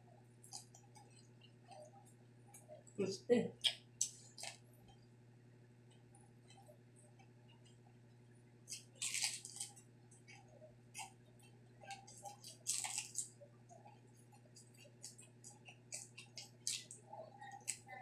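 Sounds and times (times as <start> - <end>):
crunchy food chewing: 0.4 - 2.8, 3.7 - 5.1, 5.8 - 18.0.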